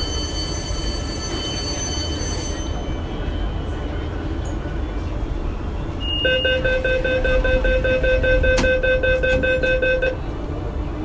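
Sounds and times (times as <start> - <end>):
train car rumble: 0.0 - 11.0.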